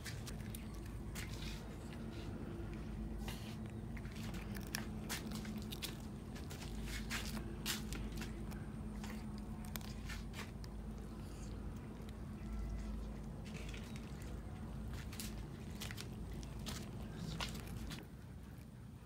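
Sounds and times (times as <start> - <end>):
cat chewing on bone: 0.0 - 19.0
steady low hum: 0.0 - 19.0.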